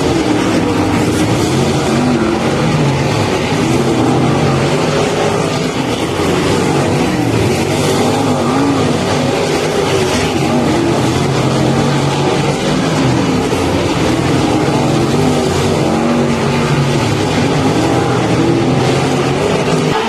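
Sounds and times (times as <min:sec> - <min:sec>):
racing car engines revving: 0:00.0 - 0:20.0.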